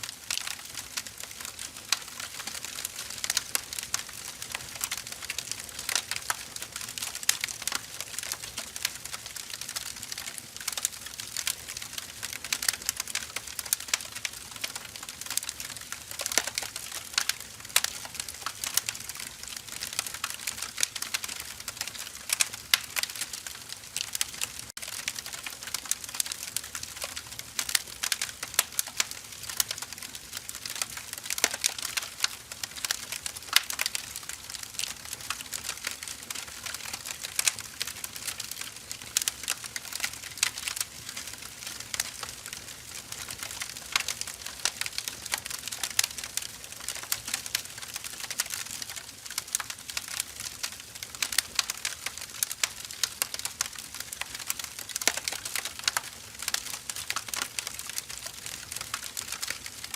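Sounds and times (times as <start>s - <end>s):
firewood crackling: 0.0s - 59.9s.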